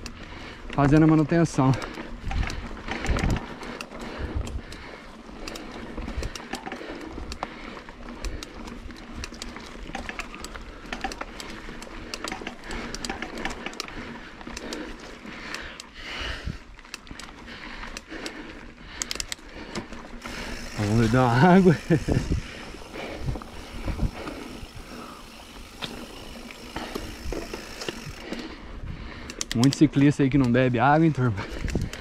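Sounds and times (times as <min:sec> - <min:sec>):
bike clicks and rattles: 0:00.0 - 0:32.0
bike tyres on dirt and rock: 0:00.0 - 0:32.0.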